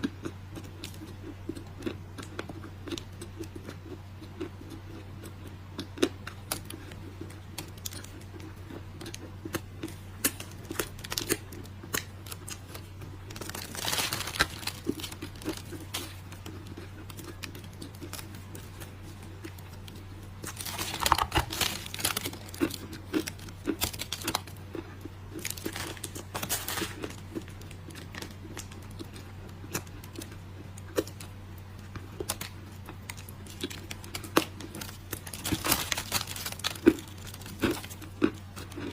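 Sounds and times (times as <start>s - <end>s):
steady low hum: 0.0s - 38.9s
dry clay crunching: 5.8s - 38.9s.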